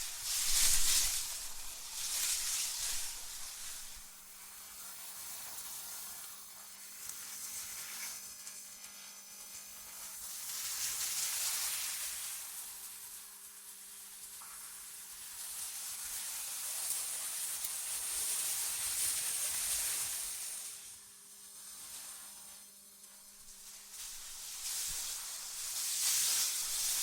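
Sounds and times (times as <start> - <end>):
synthetic wind hiss: 0.0 - 6.6, 9.9 - 27.0.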